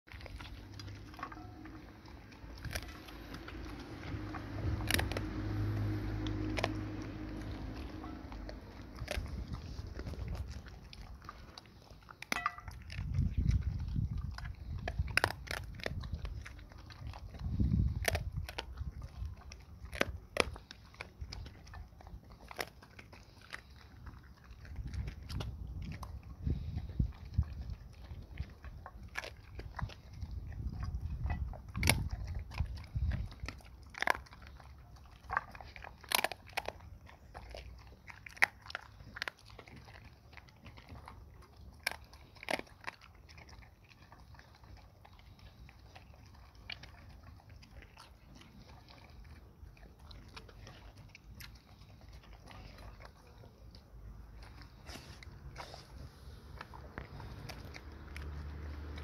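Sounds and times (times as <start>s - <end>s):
dog chewing: 0.0s - 59.0s
bones cracking under teeth: 2.2s - 59.0s.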